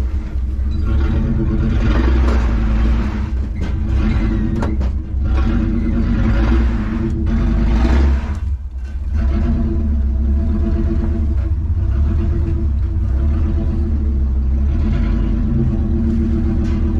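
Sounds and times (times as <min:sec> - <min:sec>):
truck engine under load: 0:00.0 - 0:16.9.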